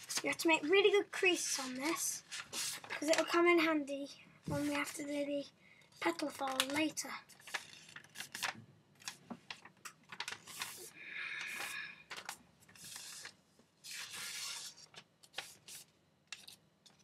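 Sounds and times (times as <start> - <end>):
paper being folded and creased: 0.0 - 3.5, 6.0 - 10.9, 11.5 - 17.0.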